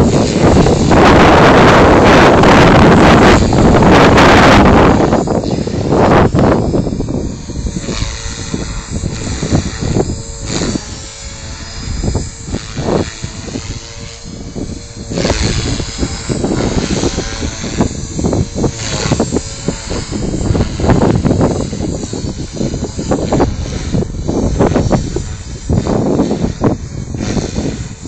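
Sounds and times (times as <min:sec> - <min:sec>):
rc helicopter motor whine: 0:00.0 - 0:28.0
strong wind buffeting microphone: 0:00.0 - 0:28.0.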